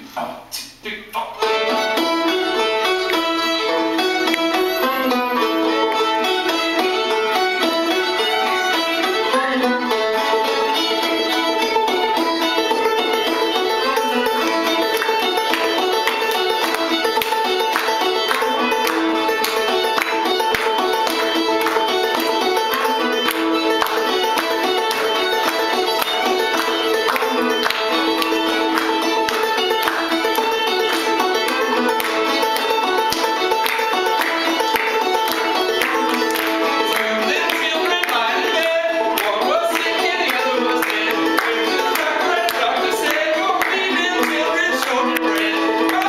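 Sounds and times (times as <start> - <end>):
banjo plucked rhythm: 1.2 - 46.0
fiddle bowed melody: 1.4 - 46.0.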